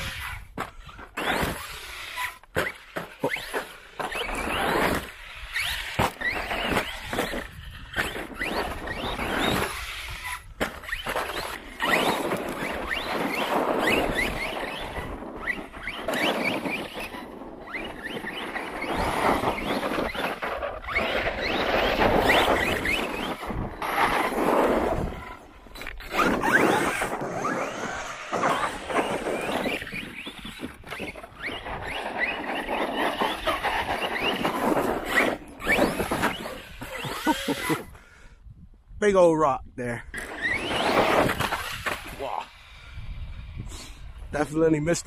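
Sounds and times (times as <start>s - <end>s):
rc truck motor whine: 0.0s - 38.0s, 40.1s - 44.3s
tires on dirt: 0.0s - 38.1s, 39.8s - 45.0s.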